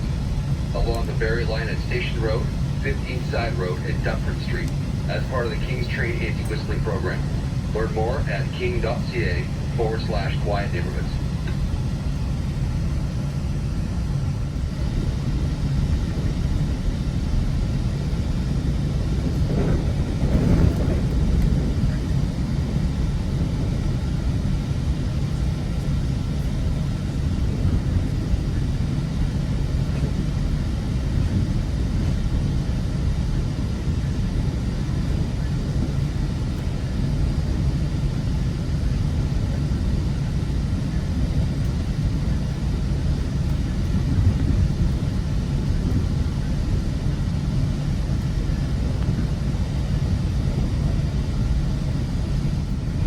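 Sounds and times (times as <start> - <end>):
train rumbling along track: 0.0 - 53.0.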